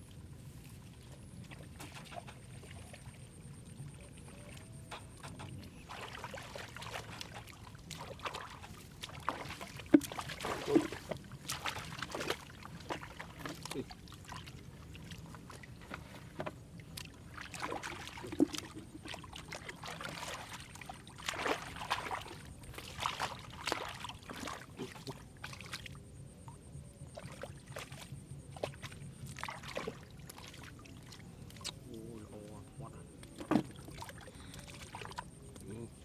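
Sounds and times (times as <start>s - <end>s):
splashing in muddy water: 0.7s - 36.0s.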